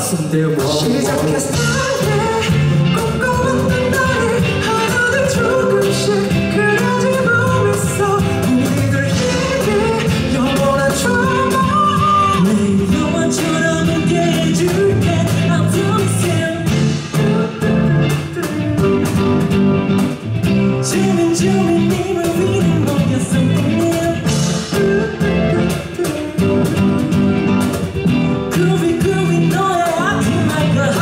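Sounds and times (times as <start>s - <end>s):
person singing: 0.0s - 19.5s, 20.6s - 27.7s, 28.3s - 31.0s
live band music: 0.0s - 31.0s.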